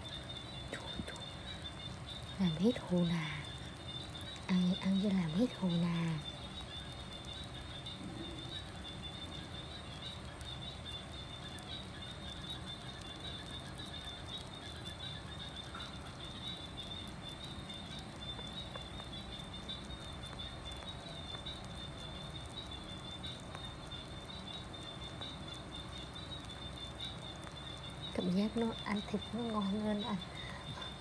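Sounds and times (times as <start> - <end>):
small animals chewing and licking: 0.3 - 31.0.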